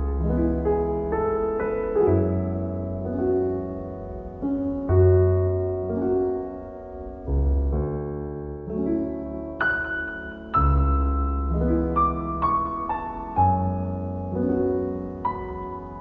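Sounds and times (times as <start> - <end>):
slow calm piano music: 0.0 - 16.0.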